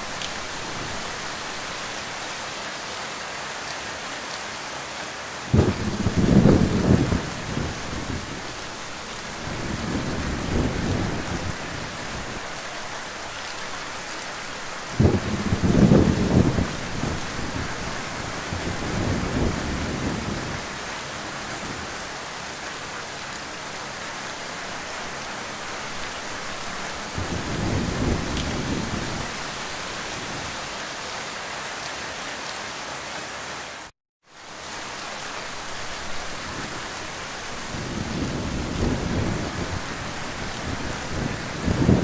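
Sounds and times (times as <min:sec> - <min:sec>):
heavy rain: 0:00.0 - 0:42.0.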